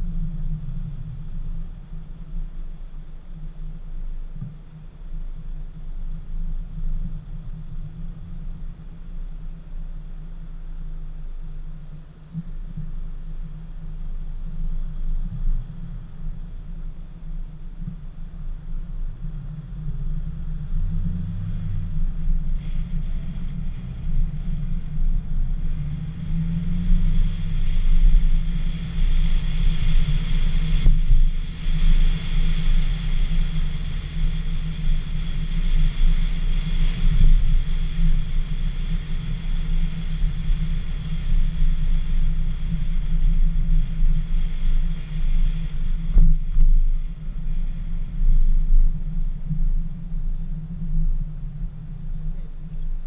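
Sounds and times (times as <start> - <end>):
wind buffeting microphone: 0.0 - 3.6, 12.0 - 53.0
car engine and tyre noise: 0.0 - 53.0.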